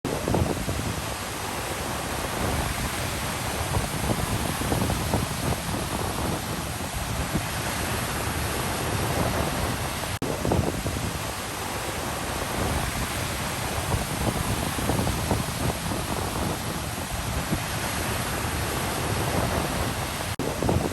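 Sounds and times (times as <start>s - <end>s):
sea waves washing onto shore: 0.1s - 20.9s
wind on microphone: 0.1s - 20.9s.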